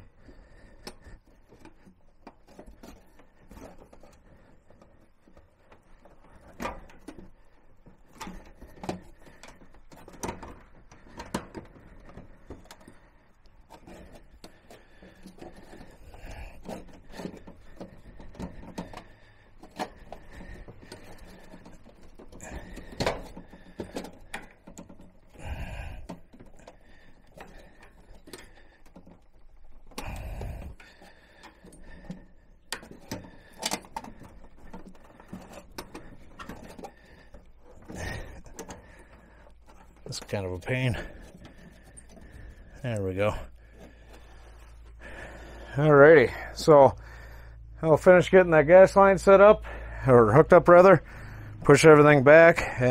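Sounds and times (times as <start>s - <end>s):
metallic clicks and rattles: 0.0s - 45.0s.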